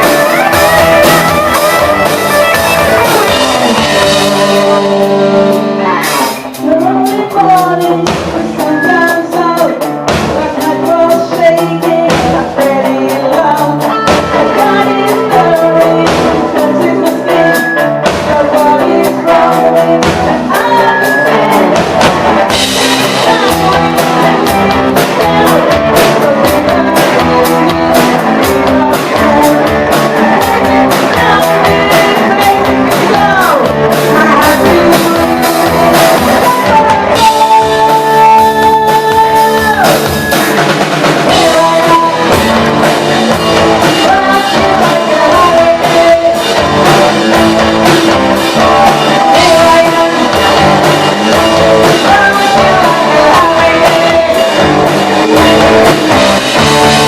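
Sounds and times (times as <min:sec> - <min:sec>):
drum kit: 0:00.0 - 0:57.0
electric guitar: 0:00.0 - 0:57.0
person singing: 0:00.0 - 0:57.0.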